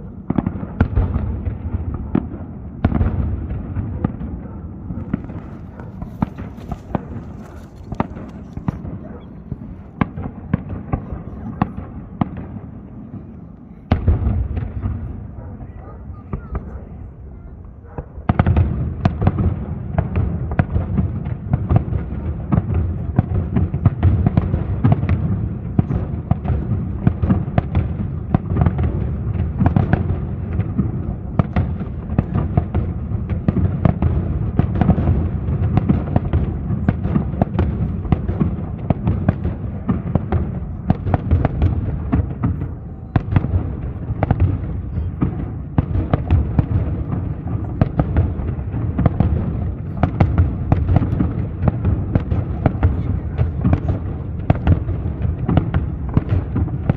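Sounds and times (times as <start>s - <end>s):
fireworks bursts and bangs: 0.0s - 56.9s.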